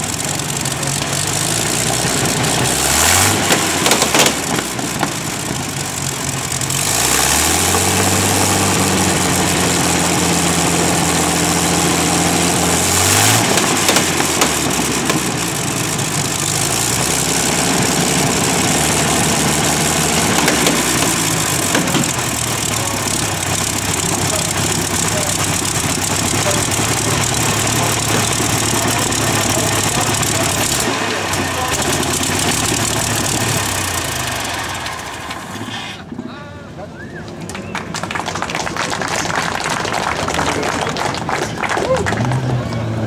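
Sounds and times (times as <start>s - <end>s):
aero engine revving: 0.0s - 36.2s, 37.2s - 43.0s.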